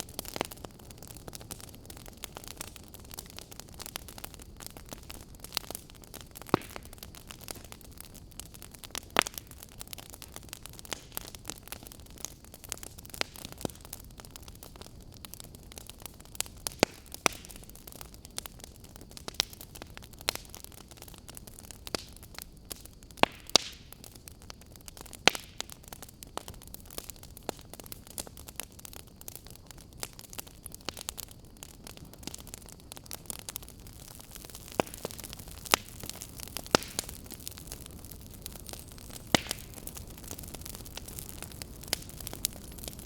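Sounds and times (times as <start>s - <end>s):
fire crackling: 0.0s - 43.0s.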